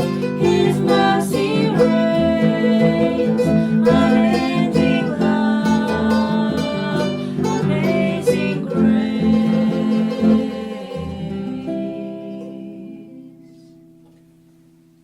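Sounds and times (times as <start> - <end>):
pitched notes with strummed chords: 0.0 - 15.0.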